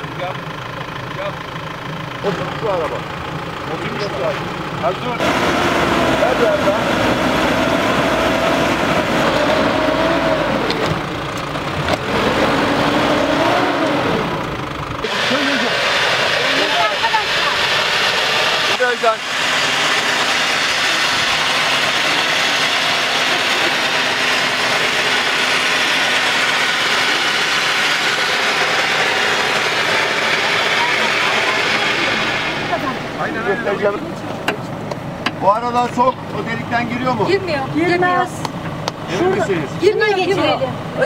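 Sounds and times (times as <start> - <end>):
truck engine running: 0.0 - 41.0.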